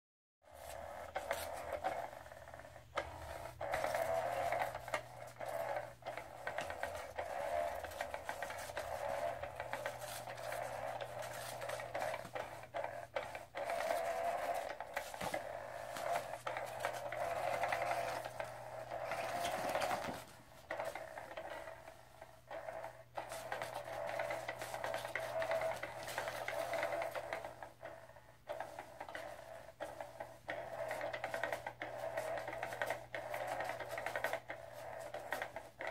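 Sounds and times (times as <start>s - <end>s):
small electric motor whirring: 0.5s - 35.9s.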